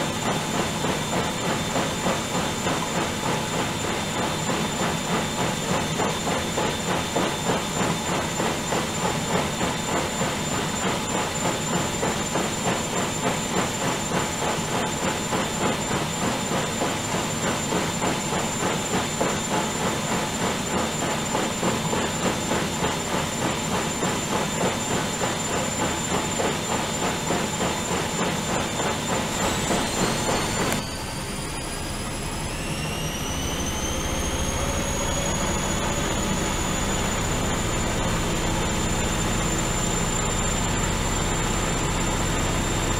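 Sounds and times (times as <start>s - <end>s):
washing machine motor whine: 0.0s - 42.9s.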